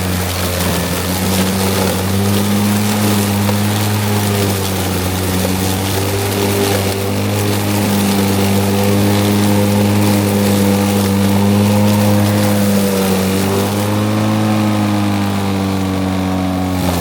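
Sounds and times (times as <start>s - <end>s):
lawn mower cutting grass: 0.0s - 17.0s.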